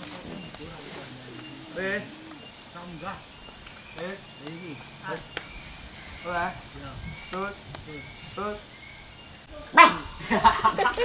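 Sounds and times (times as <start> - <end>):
short pitched calls: 0.0 - 10.4
crickets chirping: 0.0 - 11.0.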